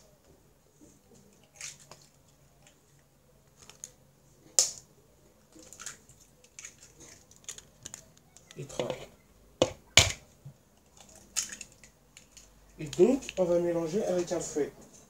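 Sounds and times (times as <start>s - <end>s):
eggshell crackling: 1.2s - 13.6s.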